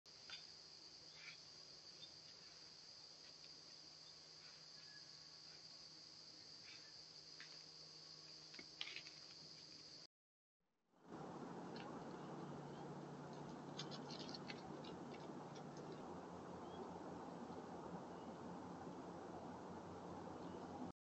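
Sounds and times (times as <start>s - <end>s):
insects chirping: 0.1s - 10.1s, 11.3s - 20.8s.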